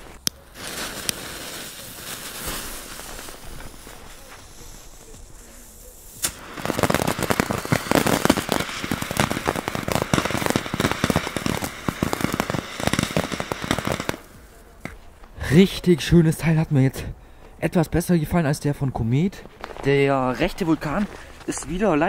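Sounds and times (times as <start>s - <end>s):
firework fountain crackling: 0.0s - 16.6s, 19.1s - 22.0s.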